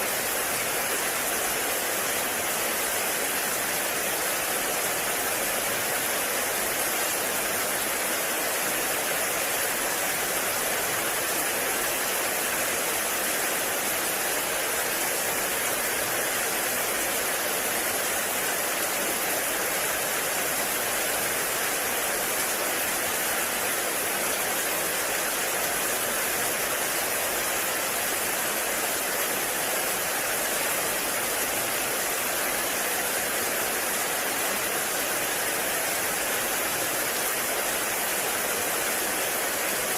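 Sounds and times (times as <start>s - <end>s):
heavy rain in forest: 0.0s - 39.9s.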